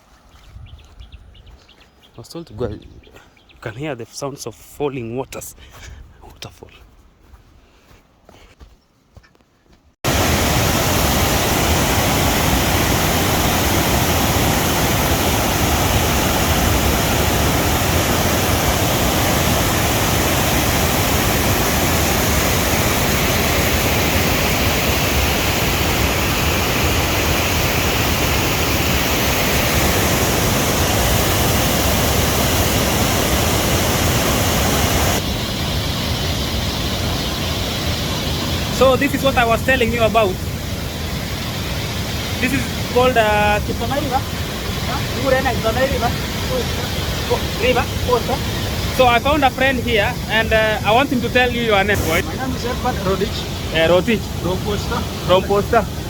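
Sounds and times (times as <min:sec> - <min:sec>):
waterfall rushing: 0:10.0 - 0:56.0.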